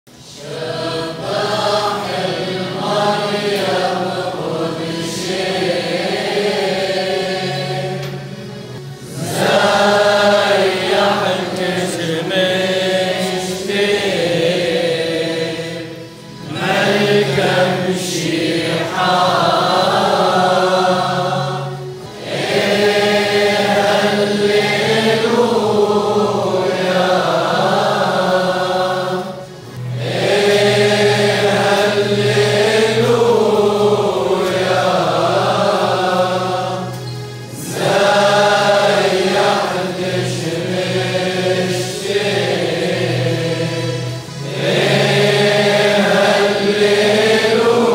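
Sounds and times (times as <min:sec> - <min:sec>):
group of voices chanting a hymn: 0:00.1 - 0:47.9.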